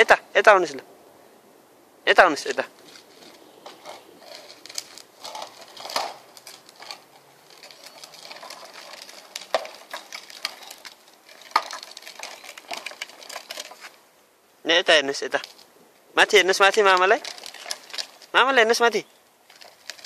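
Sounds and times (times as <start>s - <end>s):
plastic wheels rattling on paving: 2.2s - 14.1s, 14.7s - 20.0s.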